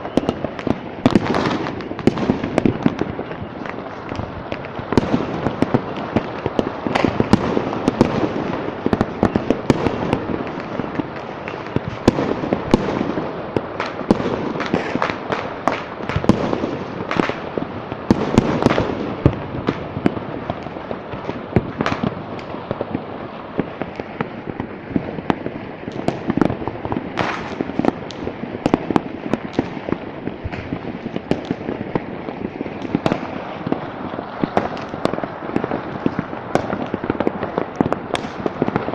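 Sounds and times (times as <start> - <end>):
firecrackers popping: 0.0 - 38.9
loud firework bangs: 0.0 - 38.9.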